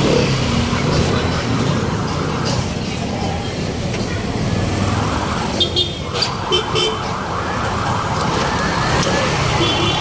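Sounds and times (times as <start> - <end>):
motor and traffic noise: 0.0 - 10.0.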